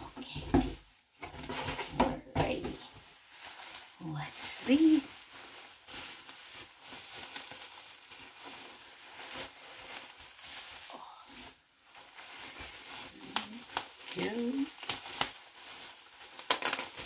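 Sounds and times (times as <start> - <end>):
bubble wrap rustling and crinkling: 0.0 - 17.0.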